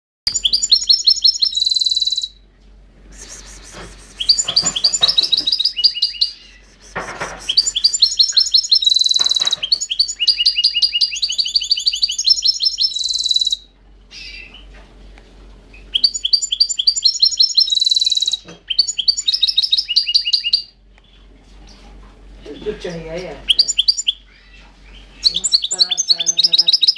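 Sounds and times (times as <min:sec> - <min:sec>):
finch singing fast trills: 0:00.3 - 0:02.4, 0:03.4 - 0:14.6, 0:15.9 - 0:20.7, 0:22.4 - 0:26.9.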